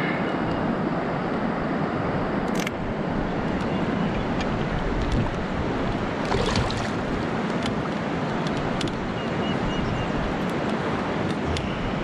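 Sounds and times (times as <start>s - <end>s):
wind noise on microphone: 0.0s - 12.0s
river water running: 0.7s - 12.0s.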